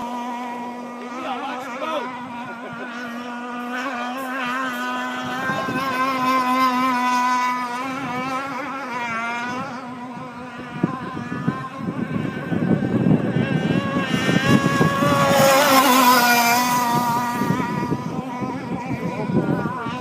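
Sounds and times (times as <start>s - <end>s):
boat engine buzzing: 0.0s - 20.0s.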